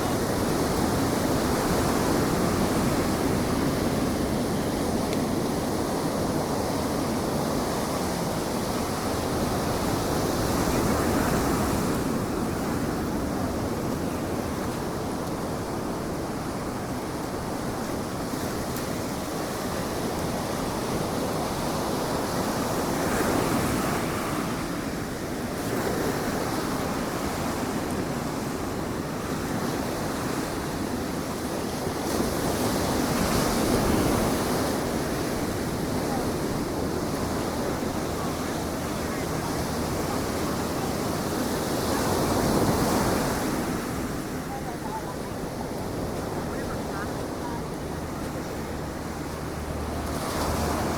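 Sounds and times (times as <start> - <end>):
ocean surf breaking: 0.0 - 50.9.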